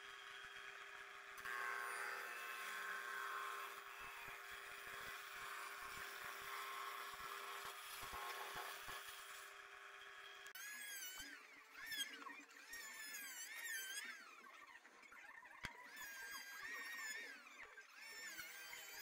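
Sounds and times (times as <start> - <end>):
table saw cutting wood: 0.0 - 19.0.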